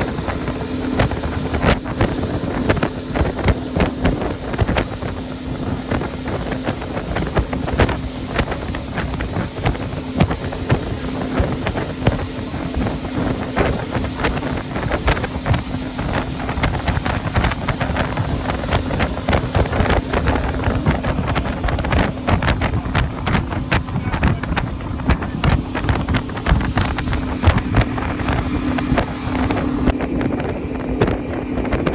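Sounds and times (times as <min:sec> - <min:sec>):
engine droning: 0:00.0 - 0:31.9
wind buffeting microphone: 0:00.0 - 0:31.9.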